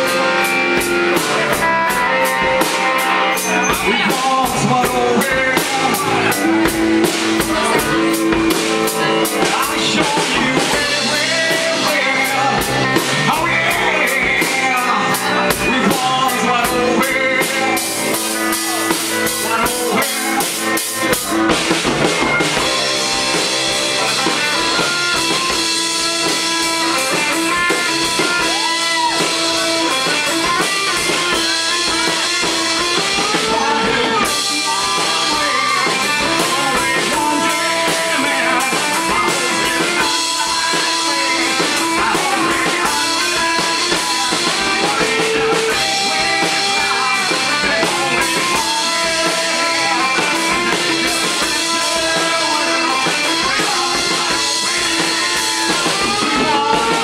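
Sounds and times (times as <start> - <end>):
fast drumming: 0.0 - 57.0
live rock band playing: 0.0 - 57.0
person singing into a microphone: 0.0 - 57.0
ringing electric guitar: 0.0 - 57.0.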